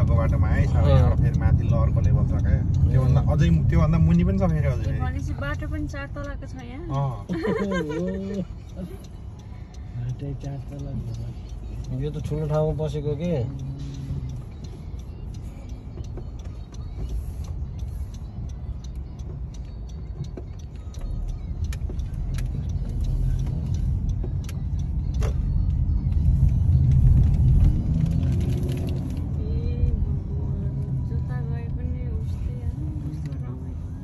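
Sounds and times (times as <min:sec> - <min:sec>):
road and engine rumble: 0:00.0 - 0:34.0.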